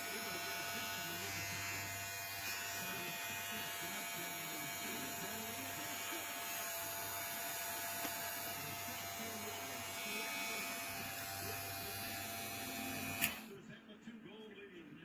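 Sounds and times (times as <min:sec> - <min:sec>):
electric hair clipper buzzing: 0:00.0 - 0:13.5
faint muffled voices: 0:00.0 - 0:15.0.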